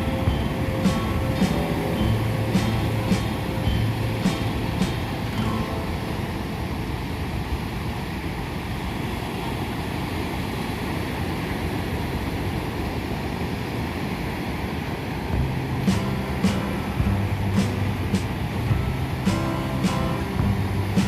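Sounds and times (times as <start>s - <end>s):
ocean surf breaking: 0.0s - 21.0s
wind rumbling on microphone: 0.0s - 21.0s.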